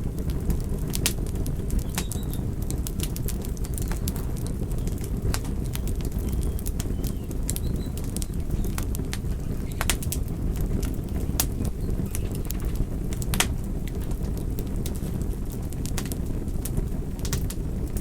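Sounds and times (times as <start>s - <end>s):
campfire popping and crackling: 0.0s - 18.0s.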